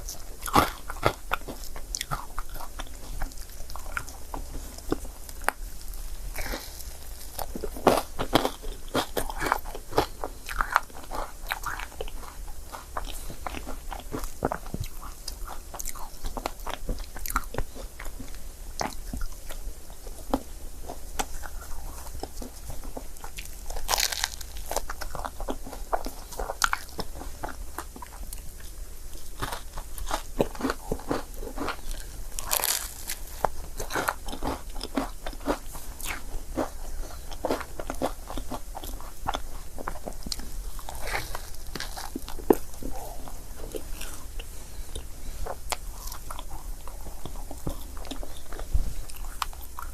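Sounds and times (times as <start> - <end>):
biting and chewing: 0.0 - 49.9.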